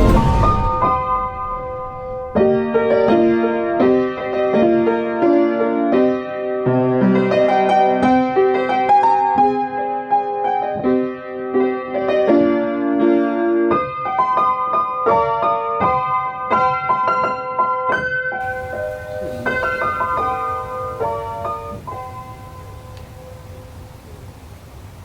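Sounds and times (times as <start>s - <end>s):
piano music: 0.0s - 24.1s.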